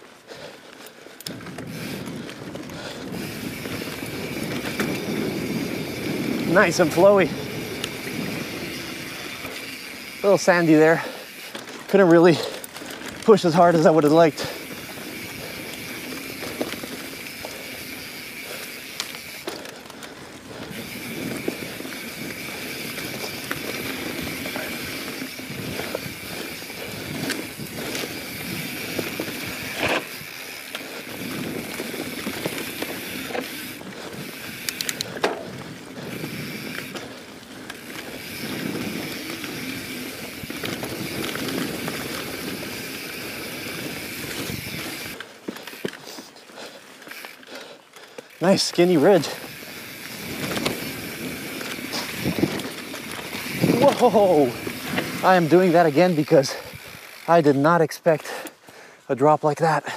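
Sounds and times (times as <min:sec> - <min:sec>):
bike knocking and rattling: 0:00.0 - 0:59.9
bike tyres rolling on dirt: 0:00.0 - 0:59.9
freewheel ratchet buzzing: 0:01.2 - 0:19.7, 0:20.3 - 0:45.9, 0:48.3 - 0:57.6.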